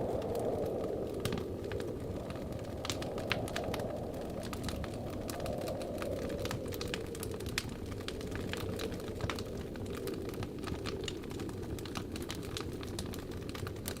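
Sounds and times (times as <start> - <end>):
low rush of wind: 0.0 - 14.0
wood fire crackling and popping: 0.0 - 14.0.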